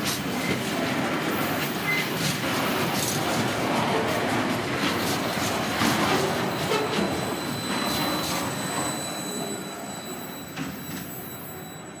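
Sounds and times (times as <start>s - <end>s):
freight train wheels rumbling on rails: 0.0s - 11.8s.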